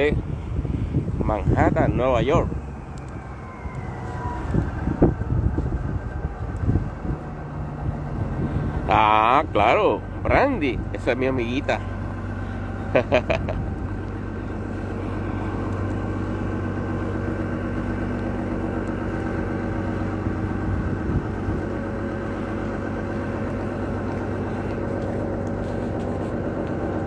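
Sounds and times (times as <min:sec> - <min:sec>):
street traffic drone: 0:00.0 - 0:27.0.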